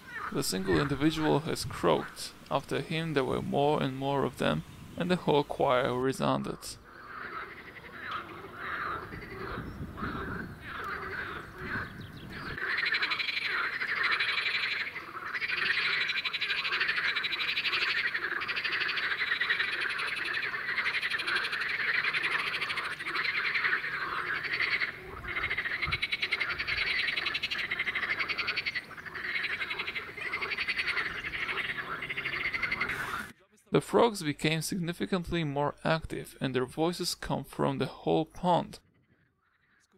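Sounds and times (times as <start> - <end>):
frogs croaking chorus: 0.0 - 33.4, 37.6 - 39.9.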